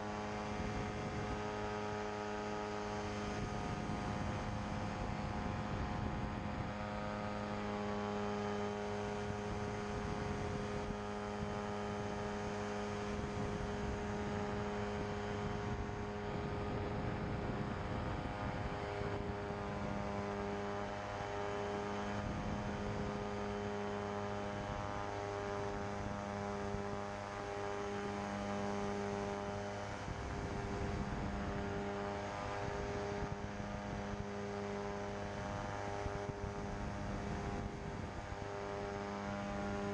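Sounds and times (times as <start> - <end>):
ultralight engine and propeller drone: 0.0 - 39.9.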